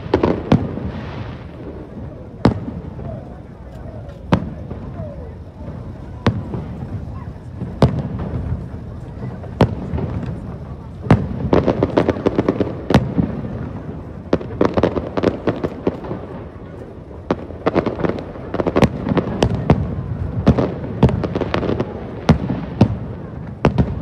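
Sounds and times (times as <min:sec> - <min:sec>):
continuous rumble: 0:00.0 - 0:24.0
fireworks booming: 0:00.0 - 0:24.0
fireworks crackling: 0:00.0 - 0:24.0.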